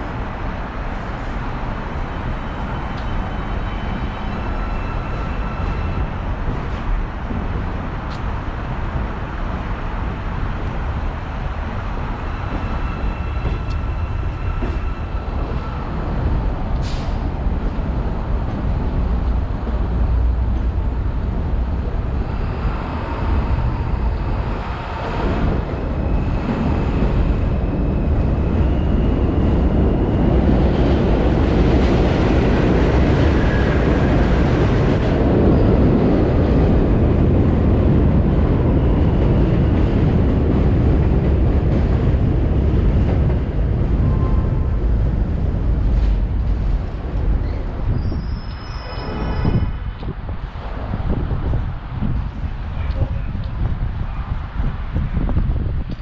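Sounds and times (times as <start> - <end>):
subway train rail rumble: 0.0 - 56.0.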